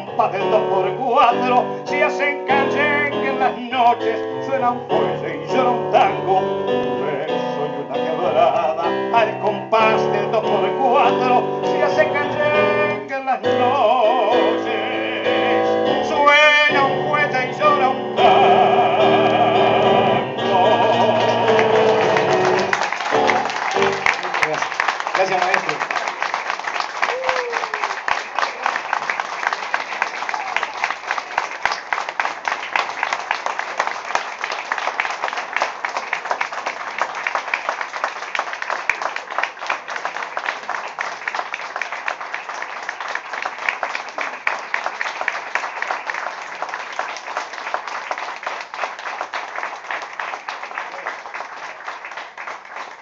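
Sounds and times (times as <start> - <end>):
audience applauding: 0.0 - 7.1, 7.9 - 13.2, 14.5 - 53.0.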